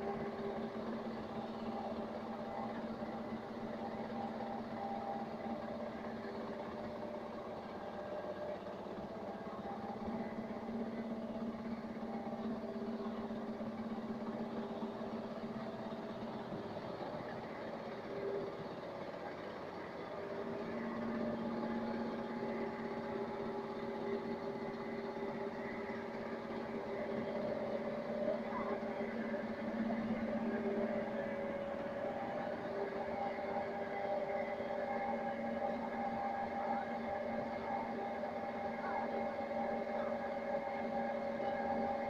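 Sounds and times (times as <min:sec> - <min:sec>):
vibrating screen machine hum: 0:00.0 - 0:42.0.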